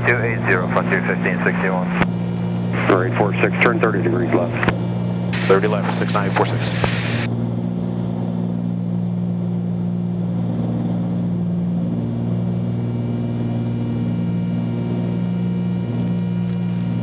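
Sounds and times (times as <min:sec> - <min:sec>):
aircraft cabin engine drone: 0:00.0 - 0:17.0.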